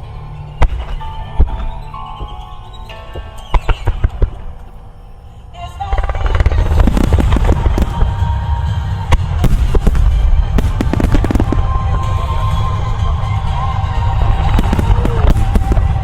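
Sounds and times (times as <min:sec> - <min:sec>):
music: 0:00.0 - 0:16.0
fireworks booming and crackling: 0:00.4 - 0:04.7, 0:05.8 - 0:16.0.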